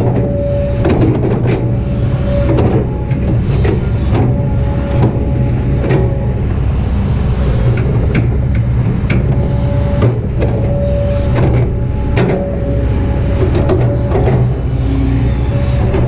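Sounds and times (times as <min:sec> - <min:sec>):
excavator bucket clanks: 0:00.0 - 0:06.7, 0:07.7 - 0:14.6
excavator diesel engine running: 0:00.0 - 0:16.0
hydraulic whine: 0:00.0 - 0:16.0.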